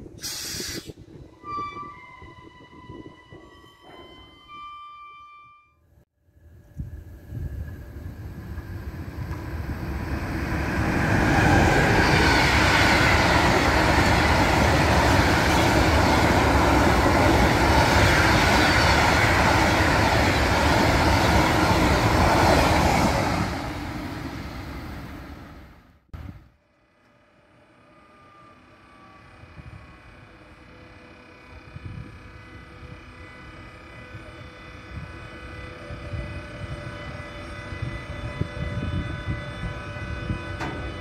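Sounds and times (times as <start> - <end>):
freight train passing: 6.3 - 41.0.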